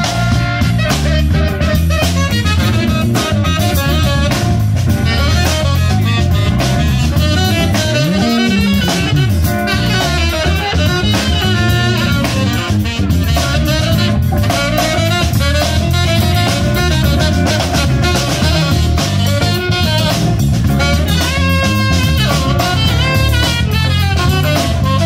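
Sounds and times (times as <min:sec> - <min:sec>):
drum kit: 0:00.0 - 0:25.0
electric bass: 0:00.0 - 0:25.0
saxophone lead: 0:00.0 - 0:25.0.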